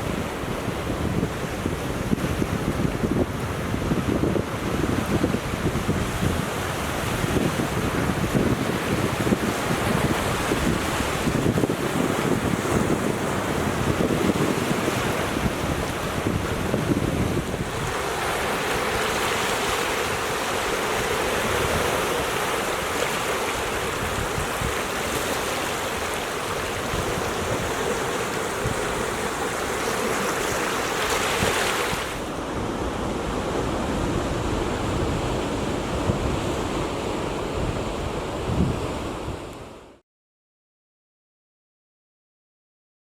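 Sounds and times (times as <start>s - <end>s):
wind buffeting microphone: 0.0s - 39.8s
waves breaking: 0.0s - 39.9s.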